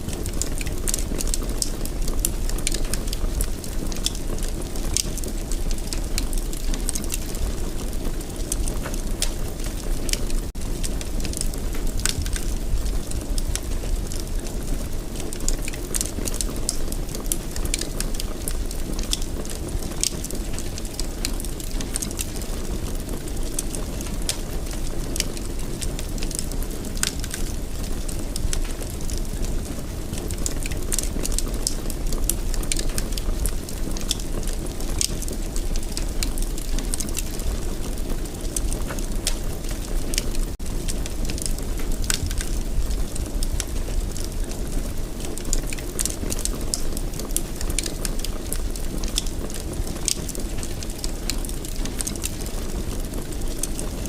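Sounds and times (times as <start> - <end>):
fire rumbling: 0.0 - 54.0
wood crackling and popping: 0.0 - 54.0.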